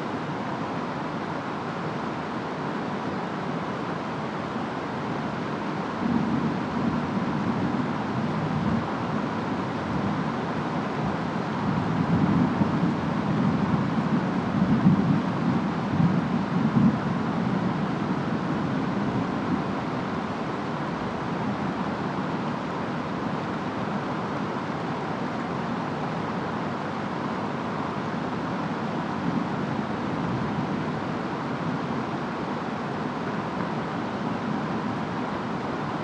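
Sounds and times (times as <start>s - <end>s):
steady rain: 0.0s - 36.0s
wind: 0.0s - 36.0s.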